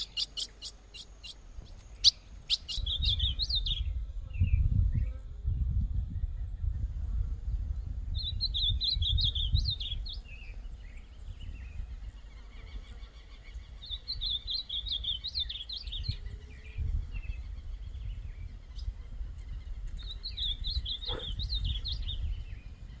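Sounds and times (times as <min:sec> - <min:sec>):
bird singing warbled phrases: 0:00.0 - 0:05.2, 0:08.1 - 0:23.0.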